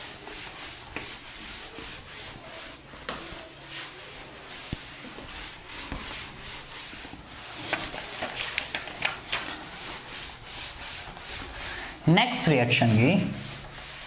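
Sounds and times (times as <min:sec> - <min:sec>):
handwriting scratching: 0:00.0 - 0:11.8.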